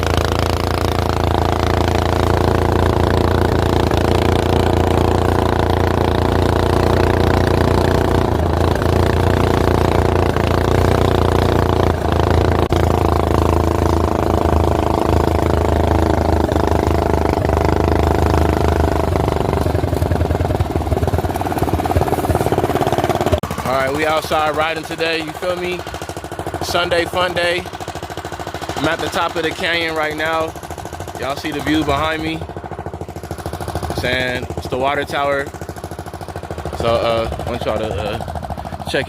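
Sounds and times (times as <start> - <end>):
small gasoline engine chugging: 0.0 - 39.0.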